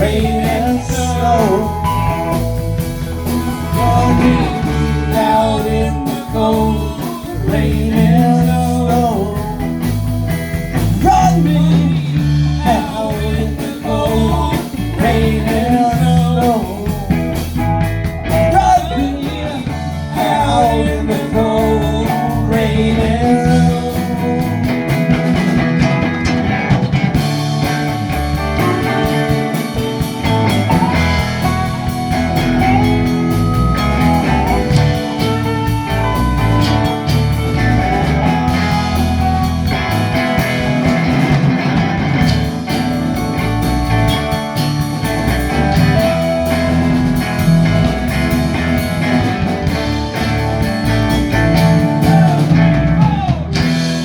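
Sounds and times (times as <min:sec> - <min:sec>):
electric guitar lead: 0:00.0 - 0:54.0
rock band music: 0:00.0 - 0:54.0.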